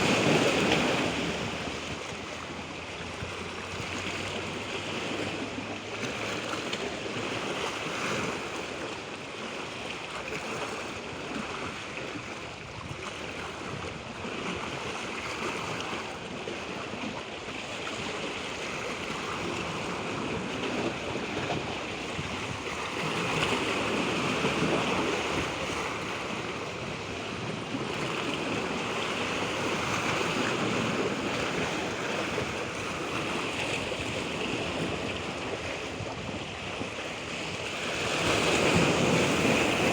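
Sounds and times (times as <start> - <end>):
rush of moving water: 0.0 - 39.9.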